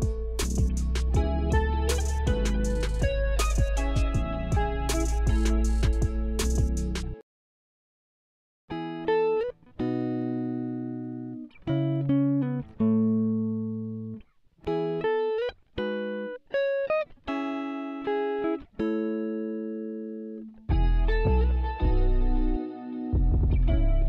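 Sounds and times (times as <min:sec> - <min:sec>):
plucked guitar melody: 0:00.0 - 0:07.2, 0:08.7 - 0:24.0.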